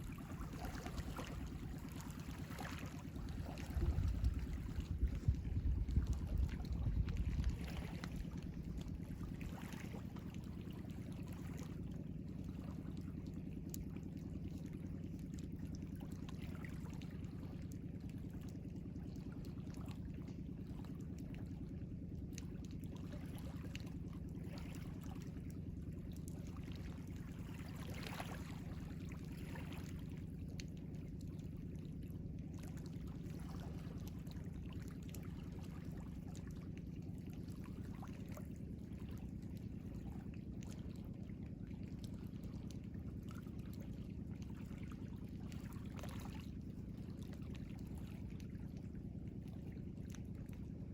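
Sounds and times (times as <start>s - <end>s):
water splashing and trickling: 0.0s - 50.9s.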